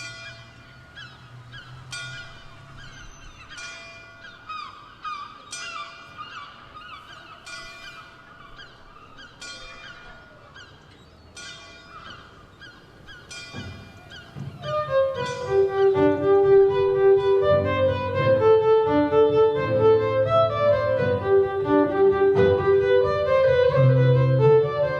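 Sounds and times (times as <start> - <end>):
geese honking: 0.0 - 24.9
faint music: 4.4 - 24.9.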